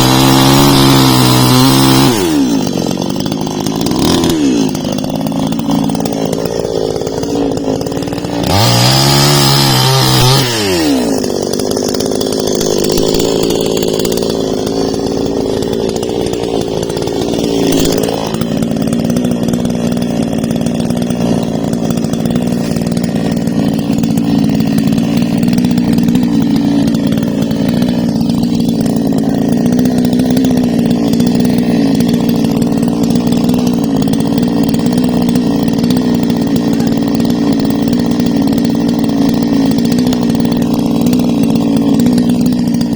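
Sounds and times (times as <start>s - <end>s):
chainsaw running and revving: 0.0s - 42.9s.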